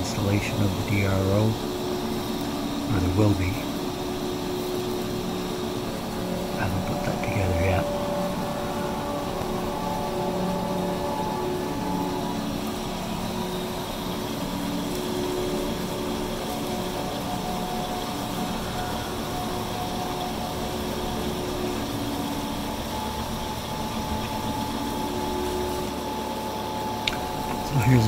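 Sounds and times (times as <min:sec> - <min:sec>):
lathe machine hum: 0:00.0 - 0:28.0.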